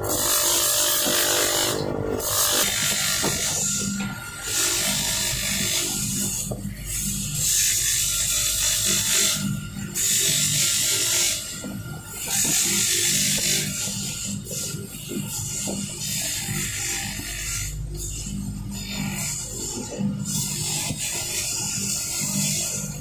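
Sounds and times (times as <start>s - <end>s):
metal grinding on polishing wheel: 0.0s - 23.0s
motor humming: 0.0s - 23.0s.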